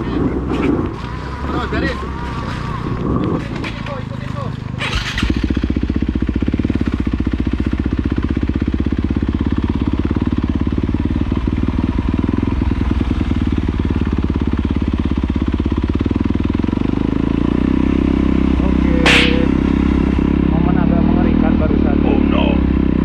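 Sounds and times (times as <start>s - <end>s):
dirt bike engine idling: 0.0s - 20.7s.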